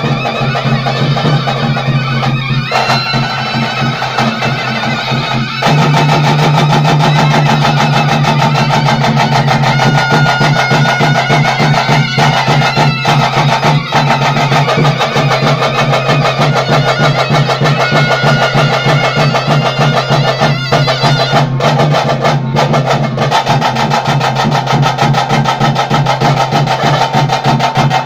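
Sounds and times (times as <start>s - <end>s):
steady drone: 0.0s - 25.1s
drumming: 0.0s - 28.0s
wind pipe melody: 0.0s - 28.0s.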